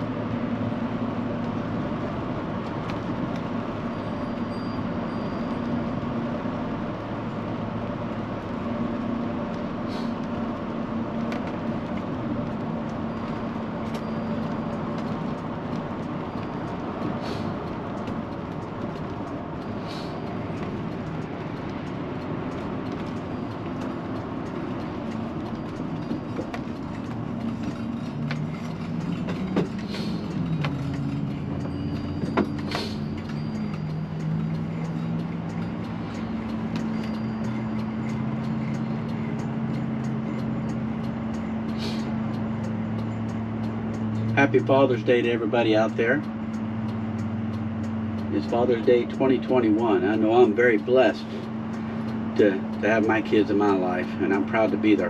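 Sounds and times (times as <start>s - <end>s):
engine drone: 0.0s - 55.0s
road rumble: 0.0s - 55.0s
sharp clicks and rattles: 10.2s - 55.0s.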